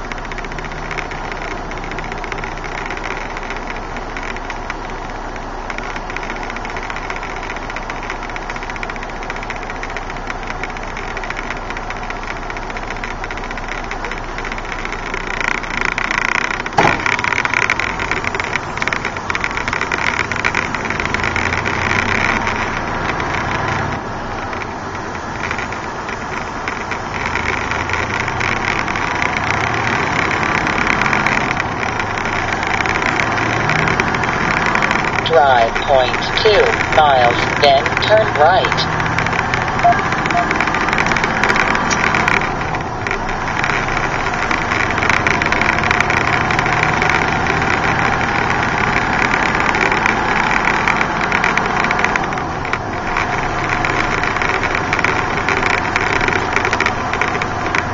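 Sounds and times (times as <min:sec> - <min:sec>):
truck diesel engine: 0:00.0 - 0:57.9.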